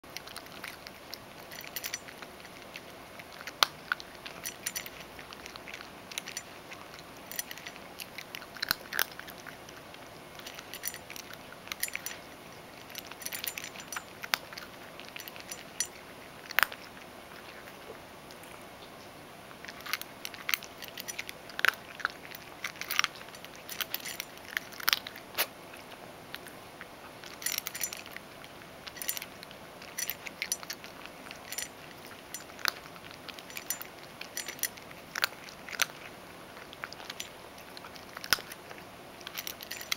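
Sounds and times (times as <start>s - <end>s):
cat crunching dry kibble: 0.0s - 18.6s, 19.5s - 39.9s.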